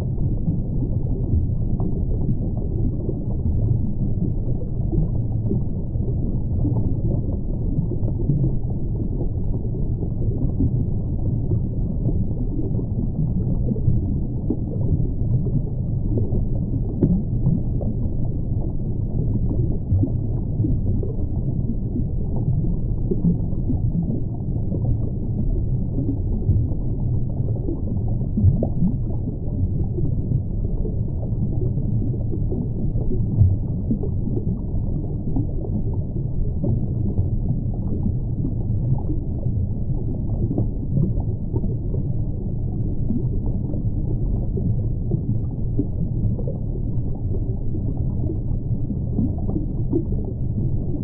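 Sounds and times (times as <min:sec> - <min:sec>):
underwater rumble of moving water: 0:00.0 - 0:51.0.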